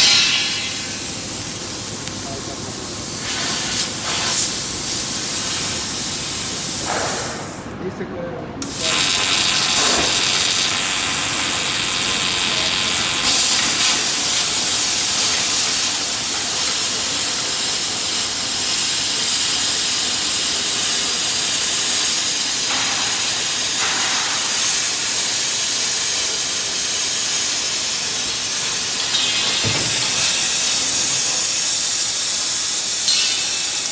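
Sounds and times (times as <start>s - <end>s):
hot air dryer running: 0.0s - 7.8s, 8.6s - 33.9s.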